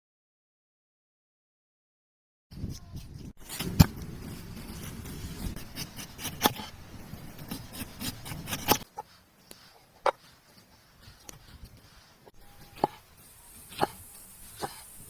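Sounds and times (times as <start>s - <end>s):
dry sticks rustling and scraping: 2.6s - 15.0s.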